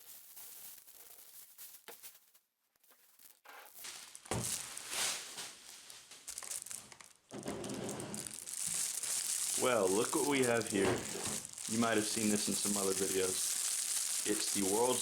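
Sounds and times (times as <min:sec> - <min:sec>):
packaging crinkling and tearing: 0:00.0 - 0:15.0.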